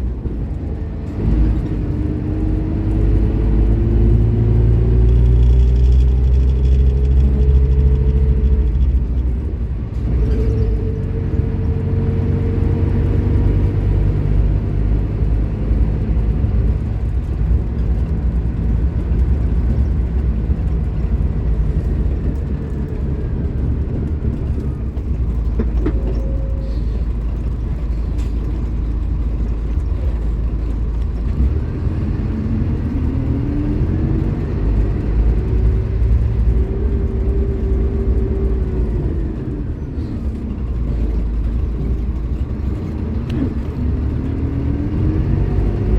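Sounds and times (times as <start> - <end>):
bus diesel engine drone: 0.0 - 45.9.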